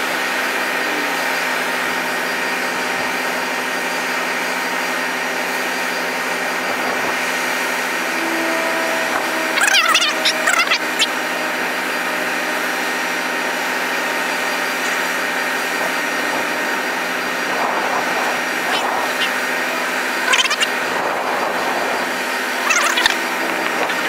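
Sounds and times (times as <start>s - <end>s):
heavy equipment engine running: 0.0s - 24.0s
voices calling out: 0.0s - 24.0s.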